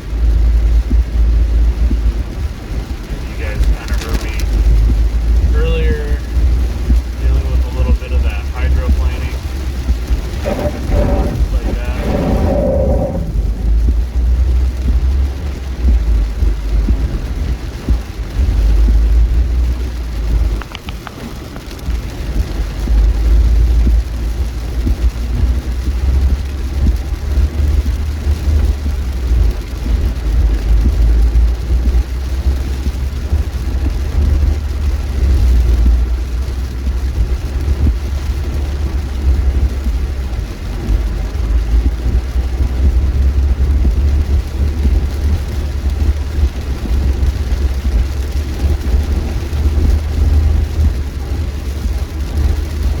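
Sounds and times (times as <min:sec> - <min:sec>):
car cabin road rumble: 0:00.0 - 0:53.0.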